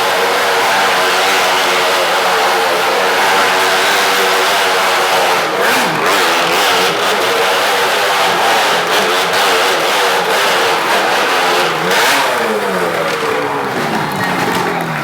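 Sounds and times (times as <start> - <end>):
motorcycle engine running hard: 0.0 - 15.0.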